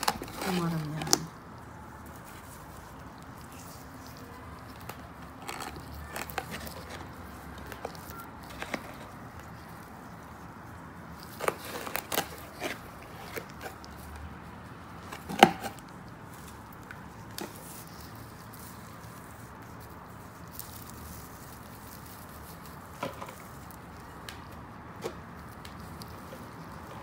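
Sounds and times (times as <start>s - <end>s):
soil rustling in hands: 0.0s - 27.0s.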